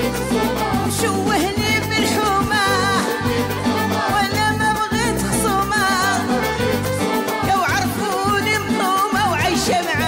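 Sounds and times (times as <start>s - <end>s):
bass: 0.0s - 10.0s.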